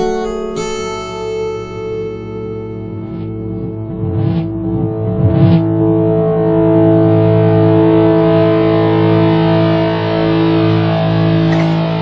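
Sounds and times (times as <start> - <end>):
distorted electric guitar chord: 0.0 - 12.0.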